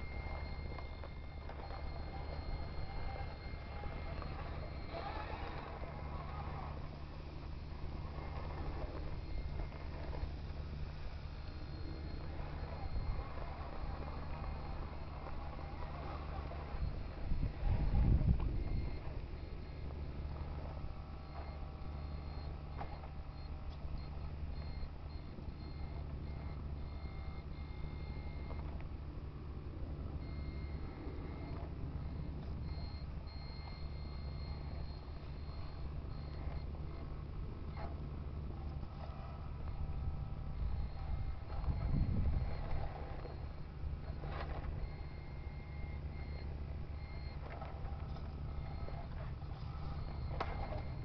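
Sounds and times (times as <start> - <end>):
electronic reversing beeper: 0.0 - 28.8, 30.2 - 51.0
diesel engine hum: 0.0 - 51.0
model truck low rumble: 0.0 - 51.0.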